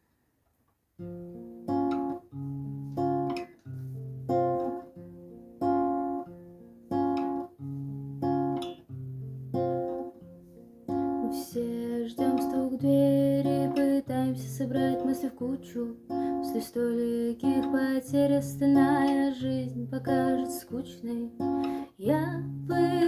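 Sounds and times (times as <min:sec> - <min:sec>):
acoustic guitar strumming chords: 0:01.1 - 0:16.8, 0:17.4 - 0:23.0.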